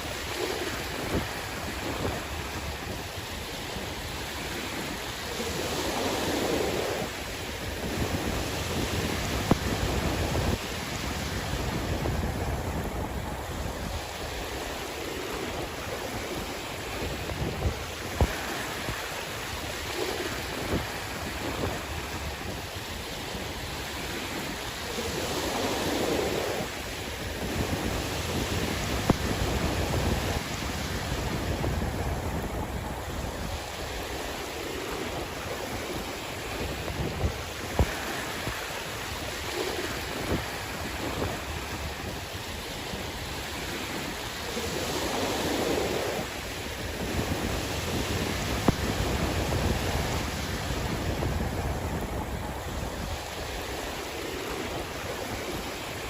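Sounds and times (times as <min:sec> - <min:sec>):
sea waves washing in: 0:00.0 - 0:56.0
wind buffeting microphone: 0:00.0 - 0:56.0.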